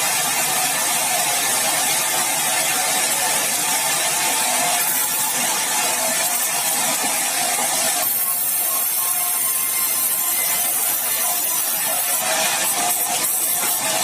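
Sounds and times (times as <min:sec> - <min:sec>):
saw cutting through timber: 0:00.0 - 0:14.0.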